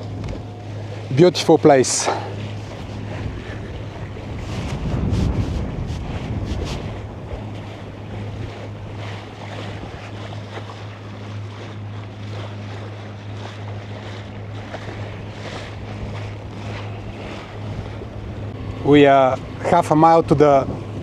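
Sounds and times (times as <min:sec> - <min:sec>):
wind on microphone: 0:00.0 - 0:11.9, 0:14.0 - 0:21.0
boat diesel engine humming: 0:00.0 - 0:21.0
water rushing along hull: 0:00.0 - 0:21.0.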